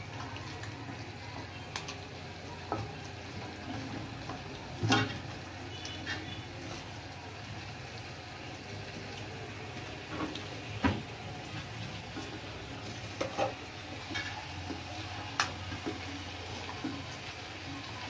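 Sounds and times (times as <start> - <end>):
cooking hiss on stove: 0.0 - 18.0.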